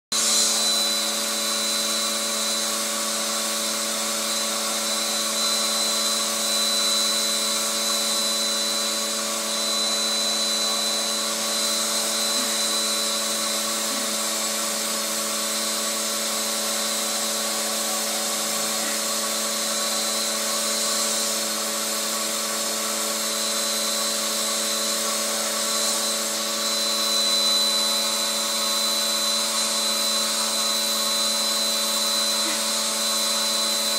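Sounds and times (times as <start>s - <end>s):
vacuum cleaner motor whining: 0.1s - 33.9s.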